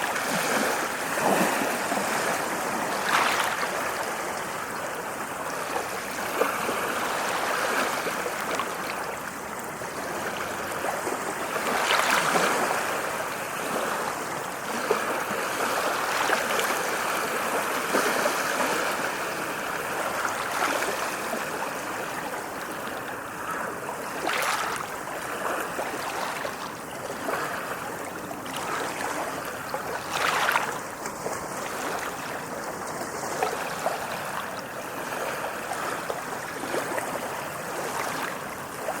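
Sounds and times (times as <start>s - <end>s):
ocean waves on shore: 0.0s - 39.0s.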